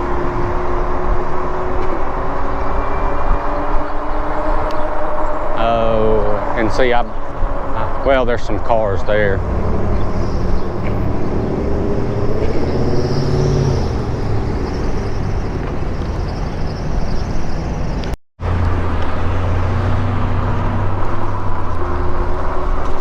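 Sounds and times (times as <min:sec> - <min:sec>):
car traffic: 0:00.0 - 0:23.0
wind rumble on microphone: 0:00.0 - 0:23.0.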